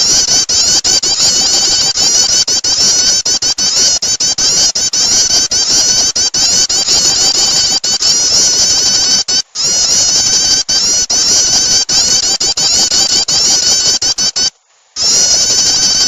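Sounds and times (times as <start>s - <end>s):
high-pitched bird chirping: 0.0s - 16.0s.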